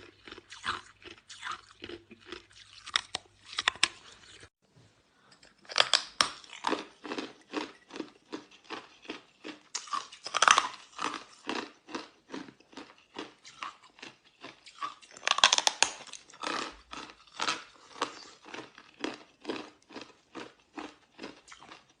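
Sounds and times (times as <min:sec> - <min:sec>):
ice being chewed: 0:00.0 - 0:04.5, 0:05.4 - 0:22.0.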